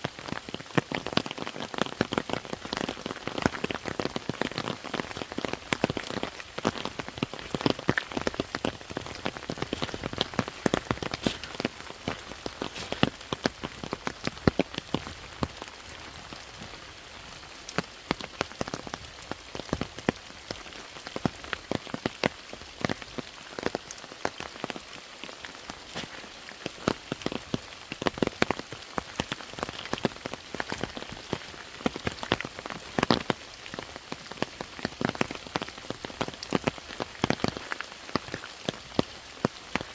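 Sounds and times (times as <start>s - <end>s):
rain falling: 0.0s - 39.9s
raindrops pattering close by: 0.0s - 39.9s.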